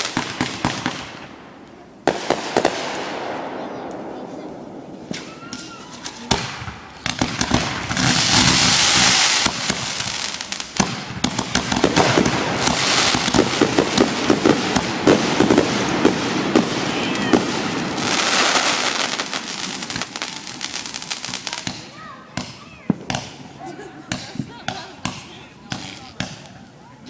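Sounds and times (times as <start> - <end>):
fireworks bangs and pops: 0.0 - 26.7
fireworks crackling: 0.0 - 27.0.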